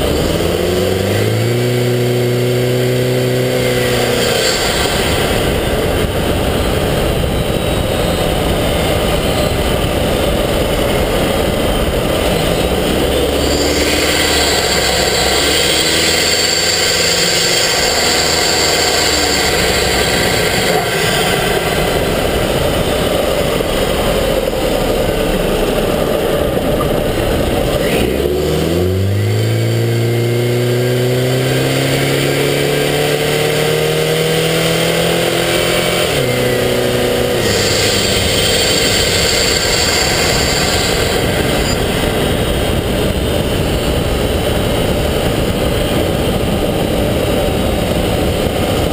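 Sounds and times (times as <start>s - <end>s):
air rush and road noise: 0.0s - 48.9s
car engine accelerating: 0.0s - 48.9s.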